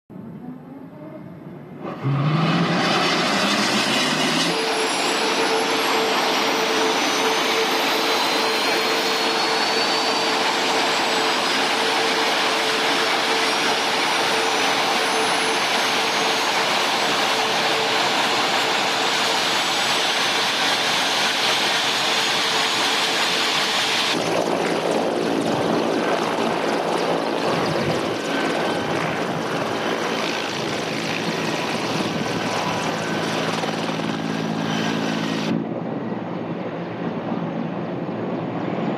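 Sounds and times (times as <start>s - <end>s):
helicopter engines whining: 0.4s - 38.9s
helicopter engine and rotor: 2.6s - 38.9s.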